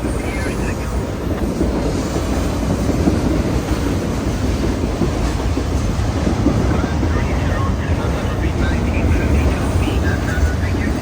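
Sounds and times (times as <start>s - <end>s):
clanks and knocks from train cars: 0.0s - 11.0s
train wheels rumbling on rail: 0.0s - 11.0s.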